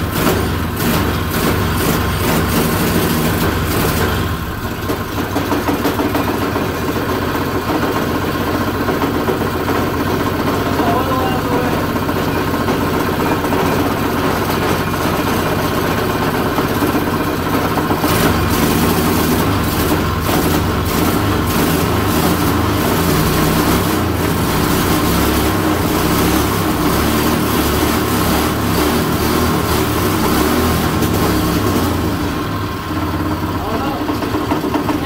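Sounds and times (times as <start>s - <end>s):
single-cylinder engine running: 0.0s - 35.0s.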